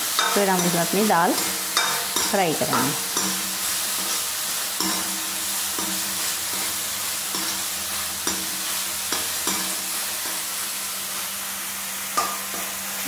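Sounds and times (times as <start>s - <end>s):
tomatoes sizzling in a pan: 0.0s - 13.0s
metal ladle knocking and scraping pan: 0.1s - 10.4s, 12.2s - 12.7s.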